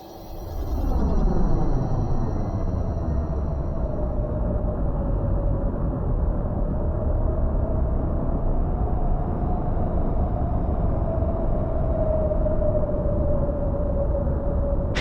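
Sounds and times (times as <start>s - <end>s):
howling wind: 0.0s - 15.0s.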